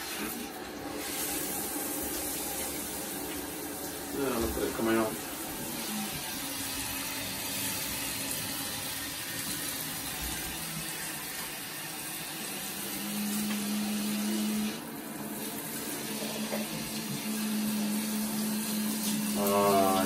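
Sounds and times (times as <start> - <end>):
shower spraying water: 0.0 - 20.0.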